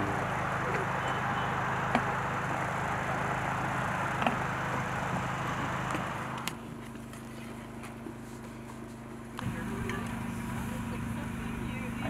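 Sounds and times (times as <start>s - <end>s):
motor running with rushing hum: 0.0s - 12.0s.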